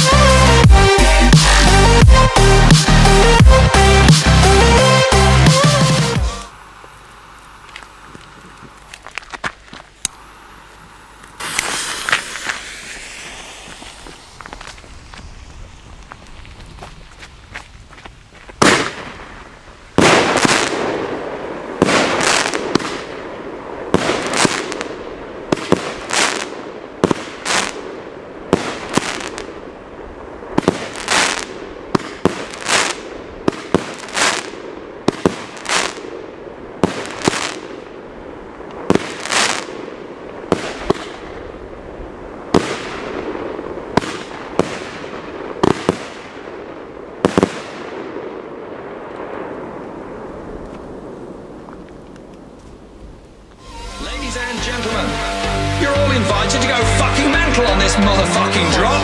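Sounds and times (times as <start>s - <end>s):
fireworks banging with hiss: 0.0s - 1.9s, 5.5s - 56.1s.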